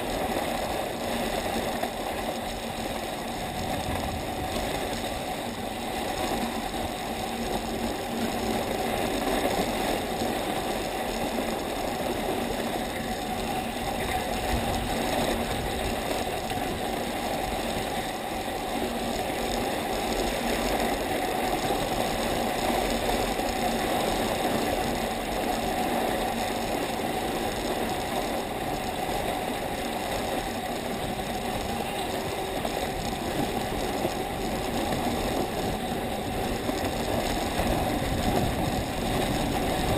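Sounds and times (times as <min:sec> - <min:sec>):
sled scraping over snow: 0:00.0 - 0:39.9.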